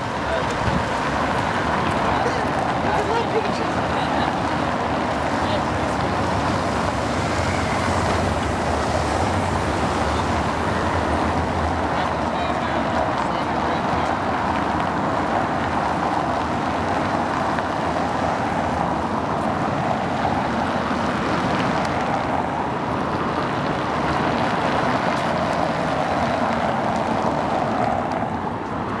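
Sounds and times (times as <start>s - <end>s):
cars driving over cobblestones: 0.0s - 29.0s.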